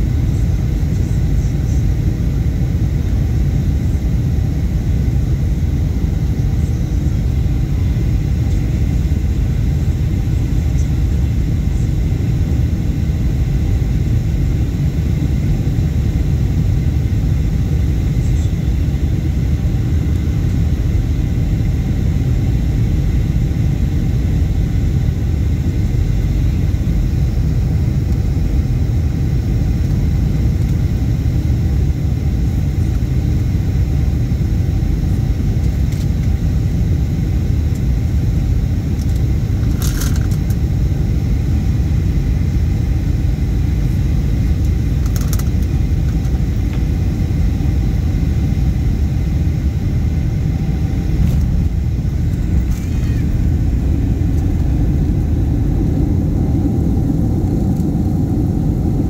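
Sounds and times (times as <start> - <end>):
airliner cabin low rumble: 0.0 - 59.0.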